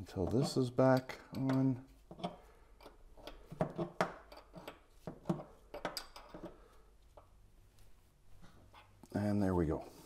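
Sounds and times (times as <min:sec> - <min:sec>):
small clicks and scrapes of fitting: 0:00.3 - 0:09.1.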